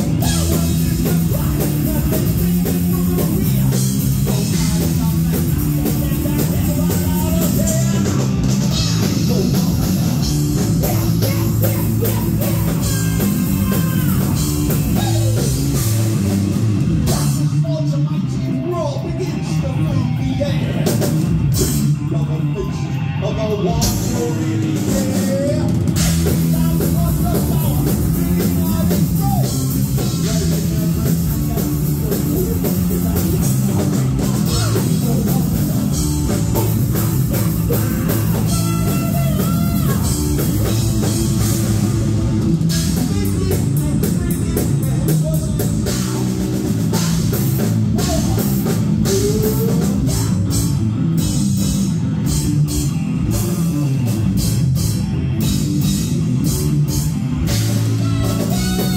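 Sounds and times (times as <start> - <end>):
pounding drum kit: 0.0 - 22.6, 23.6 - 58.9
distorted electric guitar: 0.0 - 58.9
electric bass: 0.0 - 58.9.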